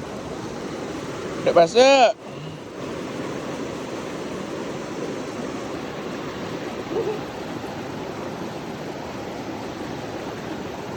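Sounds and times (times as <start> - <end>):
stream water rushing: 0.0 - 10.9.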